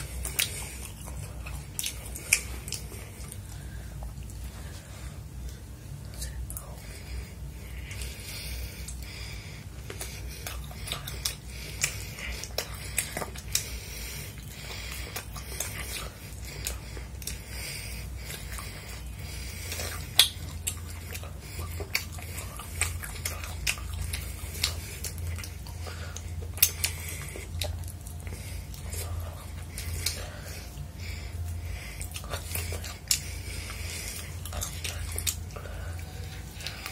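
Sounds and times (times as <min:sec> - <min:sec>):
chewing and biting food: 0:00.0 - 0:04.8, 0:07.6 - 0:36.9
steady low hum: 0:00.0 - 0:36.9.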